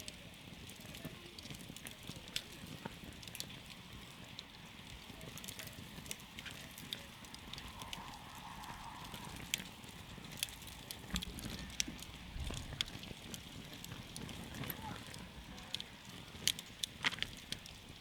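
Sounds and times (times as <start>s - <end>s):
campfire crackling and popping: 0.0s - 18.0s
low rumble of flames: 0.0s - 18.0s.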